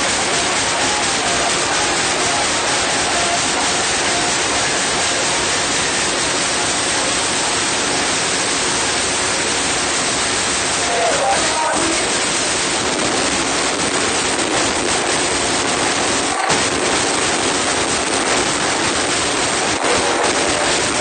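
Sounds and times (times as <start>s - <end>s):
crowd noise: 0.0s - 21.0s
distorted electronic dance music: 0.0s - 21.0s.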